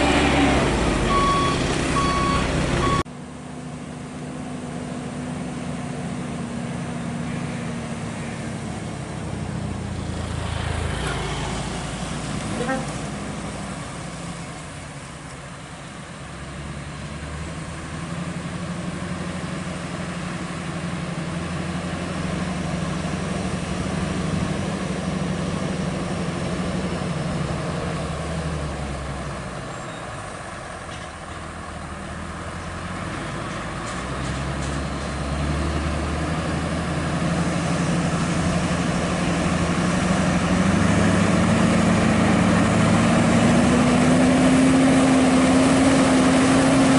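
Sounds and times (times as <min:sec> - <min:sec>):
diesel engine droning under load: 0:00.0 - 0:46.9.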